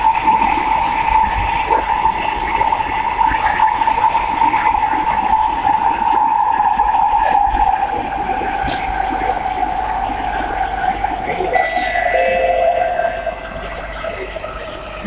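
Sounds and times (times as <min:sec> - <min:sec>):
high whine: 0:00.0 - 0:15.0
rumble of train wheels on rail: 0:00.0 - 0:15.0.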